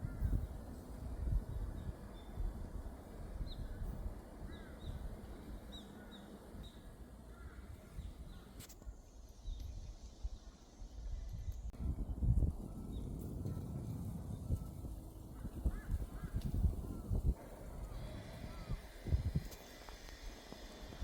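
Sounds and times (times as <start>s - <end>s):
birds chirping: 1.4s - 19.1s.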